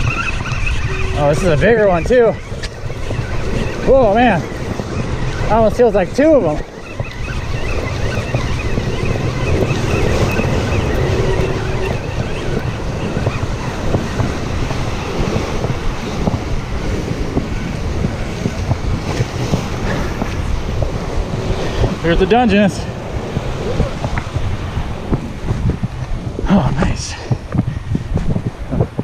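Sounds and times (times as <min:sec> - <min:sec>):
surf washing against rocks: 0:00.0 - 0:29.0
wind buffeting microphone: 0:00.0 - 0:29.0.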